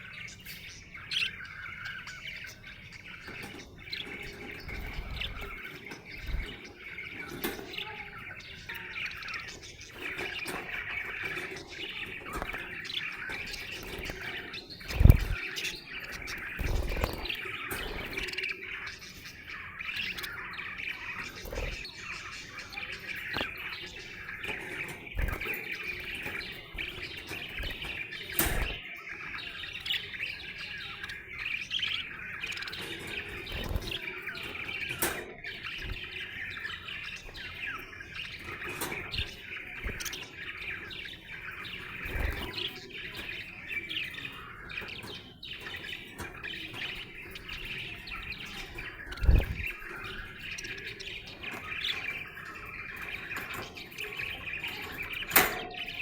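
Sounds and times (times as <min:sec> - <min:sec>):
budgerigar chirping and warbling: 0:00.0 - 0:56.0.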